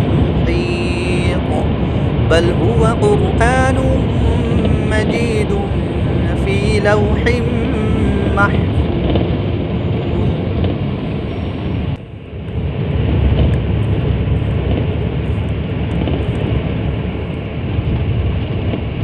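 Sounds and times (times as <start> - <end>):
road and wind noise: 0.0 - 19.0
vehicle engine rumble: 0.0 - 19.0.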